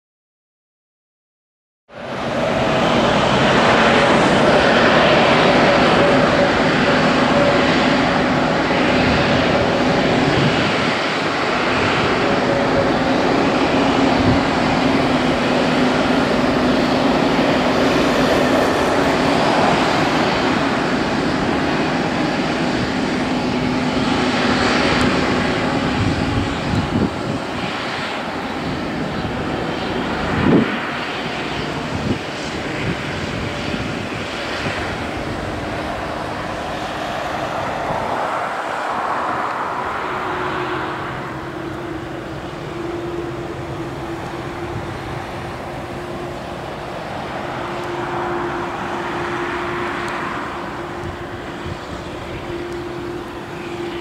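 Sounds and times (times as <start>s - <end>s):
jet engine rush: 1.9s - 54.0s.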